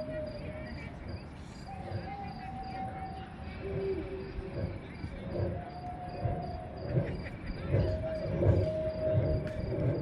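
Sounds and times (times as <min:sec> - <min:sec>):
crickets chirping: 0:00.0 - 0:10.0
low murmur: 0:00.0 - 0:10.0.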